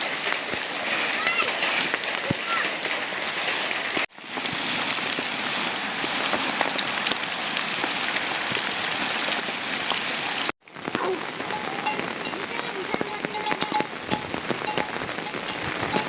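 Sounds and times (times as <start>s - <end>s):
heavy rain pattering: 0.0s - 16.0s.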